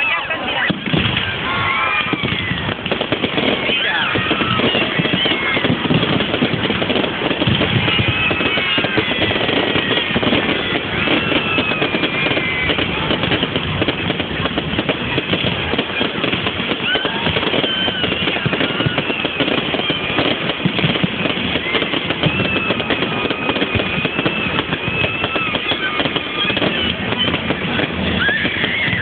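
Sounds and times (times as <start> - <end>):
fireworks crackling: 0.0 - 29.0
fireworks whistling: 0.0 - 29.0.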